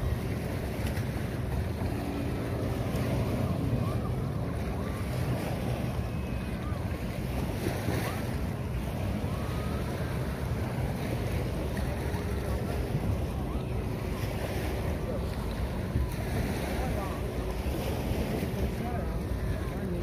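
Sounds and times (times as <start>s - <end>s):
sea surf washing on beach: 0.0s - 20.0s
wind buffeting microphone: 0.0s - 20.0s.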